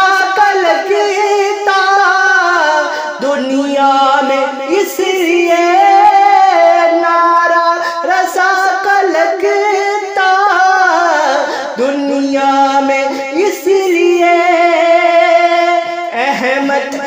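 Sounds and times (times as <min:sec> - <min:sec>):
man singing solo: 0:00.0 - 0:17.0.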